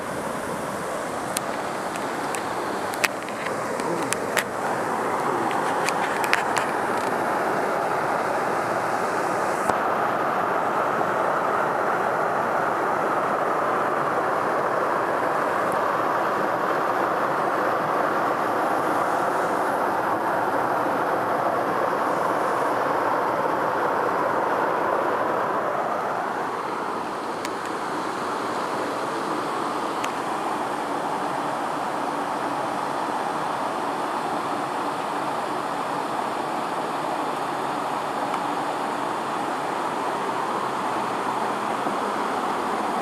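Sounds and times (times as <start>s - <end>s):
waterfall rushing into pool: 0.0s - 43.0s.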